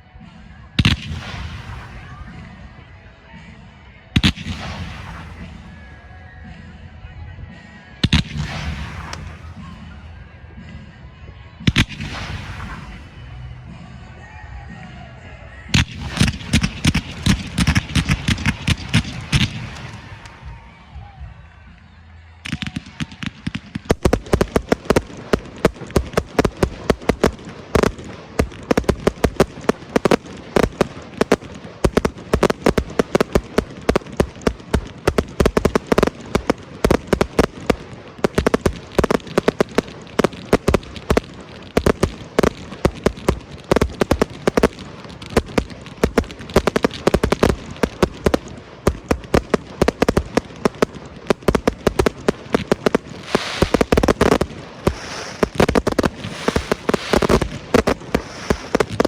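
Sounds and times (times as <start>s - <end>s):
fireworks barrage: 0.0s - 59.0s.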